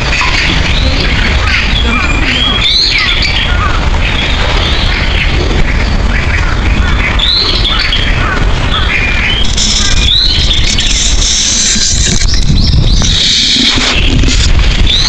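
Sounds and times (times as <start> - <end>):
steady low rumble: 0.0 - 15.0
wild birds chirping: 0.0 - 15.0.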